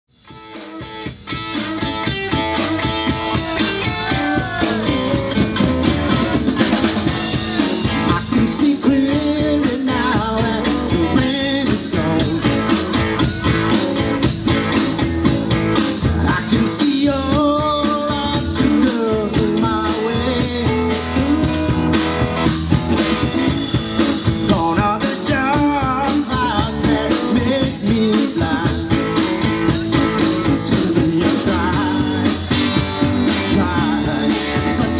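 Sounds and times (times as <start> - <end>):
drum kit beat: 0.1 - 34.9
electric guitars: 0.1 - 34.9
bending lead guitar line: 0.2 - 34.9.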